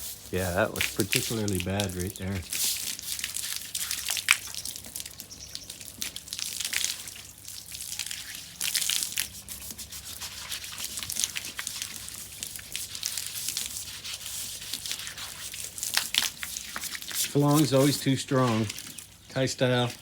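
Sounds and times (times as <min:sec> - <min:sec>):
hand scrubbing: 0:00.0 - 0:04.4, 0:07.9 - 0:20.0
water splashes and drips: 0:00.0 - 0:20.0.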